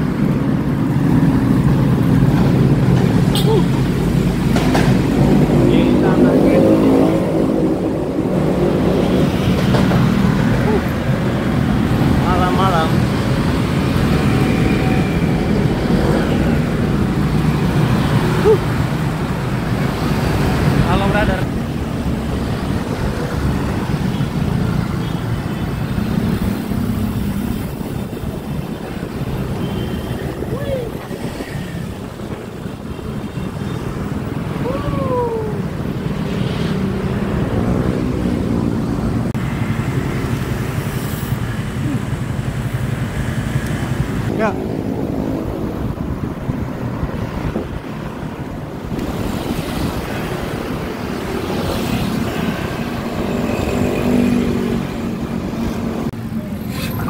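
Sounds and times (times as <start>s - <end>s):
wind rushing over microphone: 0.0s - 24.6s, 25.9s - 56.6s
road traffic rumble: 0.0s - 57.0s.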